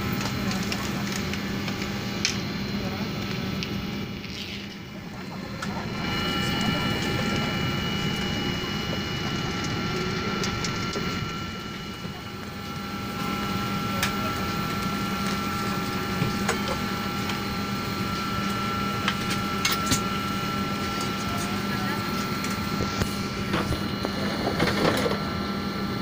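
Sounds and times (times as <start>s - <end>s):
aircraft cabin hum: 0.0s - 26.0s.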